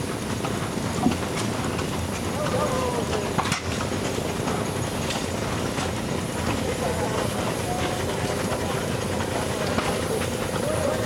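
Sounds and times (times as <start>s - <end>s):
steam engines clattering: 0.0s - 11.0s.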